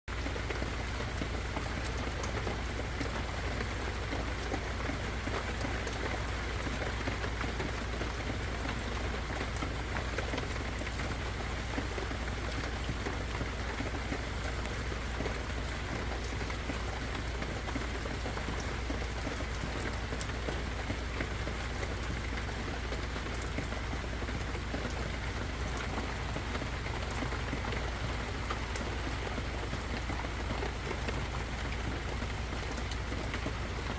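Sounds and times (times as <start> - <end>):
raindrops ticking: 0.1 - 33.9
steady rain hiss: 0.1 - 33.9.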